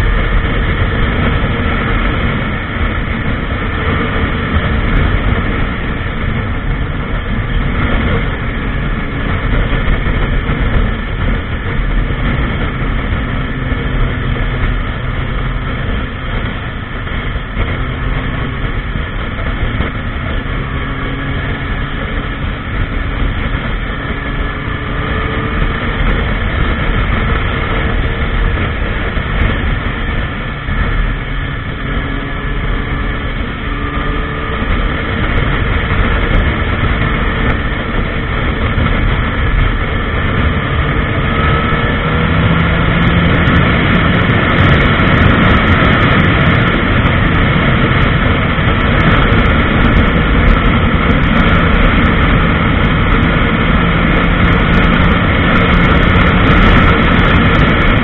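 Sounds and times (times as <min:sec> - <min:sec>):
motorcycle engine at speed: 0:00.0 - 0:58.0
wind rush: 0:00.0 - 0:58.0.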